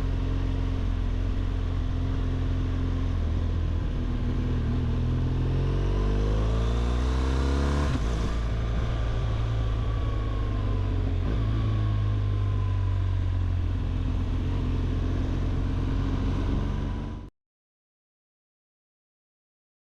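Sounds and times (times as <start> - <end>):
motorcycle engine accelerating: 0.0 - 17.3.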